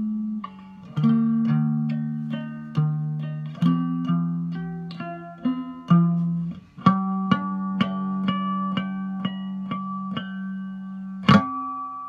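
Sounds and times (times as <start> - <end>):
low string droning: 0.0 - 11.6
plucked guitar notes: 0.0 - 12.0.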